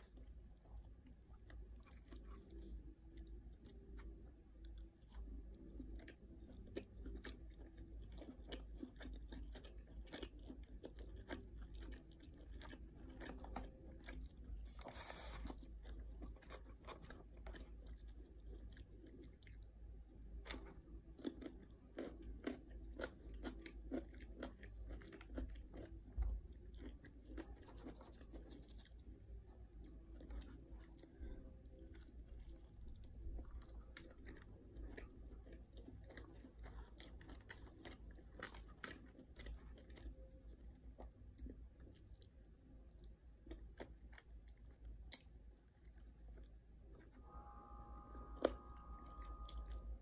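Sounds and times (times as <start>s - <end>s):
person chewing crispy food: 0.0s - 47.3s, 48.1s - 50.0s.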